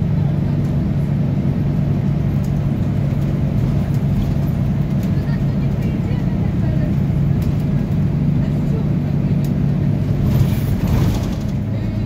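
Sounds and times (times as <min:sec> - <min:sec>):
bus air conditioning: 0:00.0 - 0:12.0
bus diesel engine running: 0:00.0 - 0:12.0.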